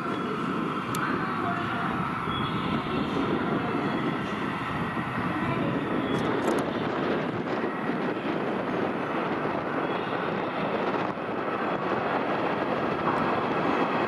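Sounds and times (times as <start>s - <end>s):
train running on rails: 0.0s - 14.0s.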